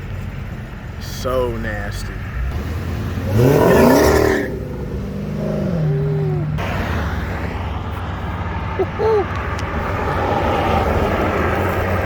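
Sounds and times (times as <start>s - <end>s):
car engine revving: 2.3s - 12.0s.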